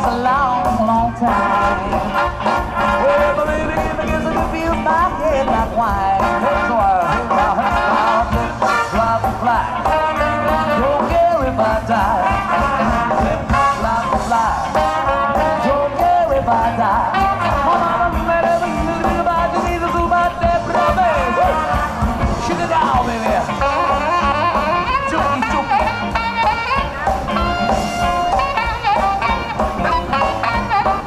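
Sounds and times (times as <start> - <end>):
harmonica lead: 0.0 - 31.0
live blues band playing: 0.0 - 31.0.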